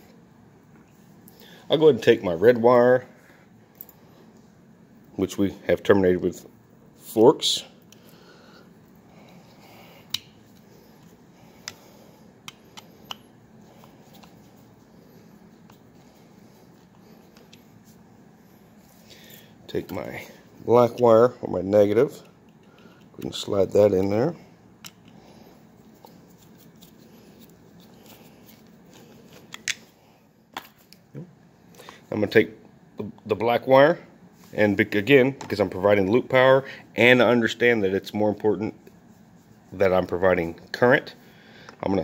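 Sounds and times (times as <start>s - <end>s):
faint room hum: 0.0s - 42.0s.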